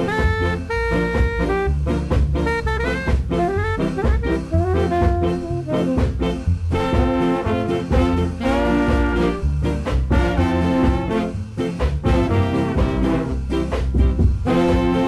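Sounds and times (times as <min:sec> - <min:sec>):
ska instrumental with horns: 0:00.0 - 0:15.0.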